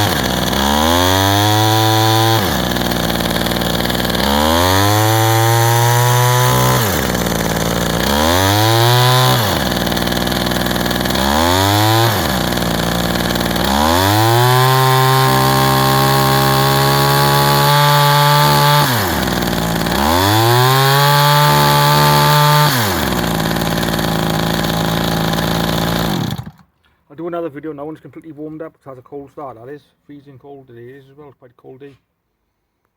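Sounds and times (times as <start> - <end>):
hedge trimmer engine revving: 0.0 - 26.7.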